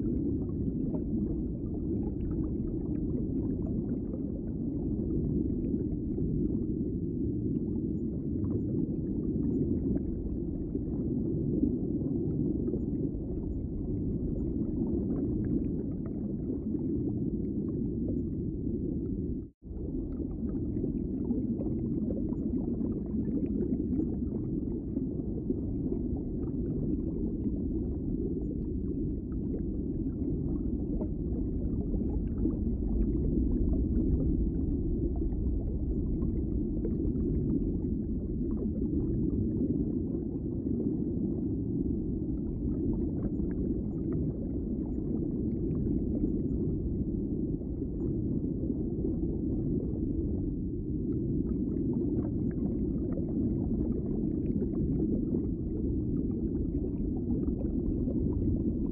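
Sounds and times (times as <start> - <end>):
muffled underwater rumble: 0.0 - 58.9.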